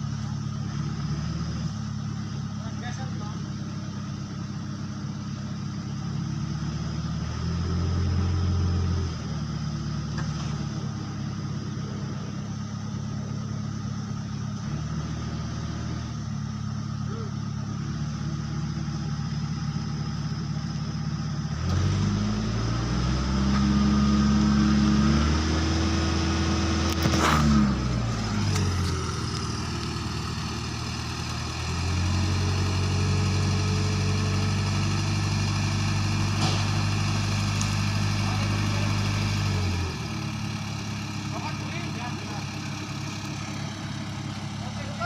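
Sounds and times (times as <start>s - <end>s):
crane truck engine idling and revving: 0.0s - 45.0s.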